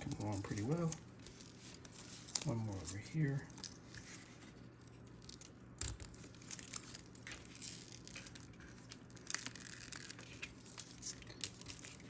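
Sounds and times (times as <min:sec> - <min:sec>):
vinyl sheet crinkling: 0:00.0 - 0:12.0.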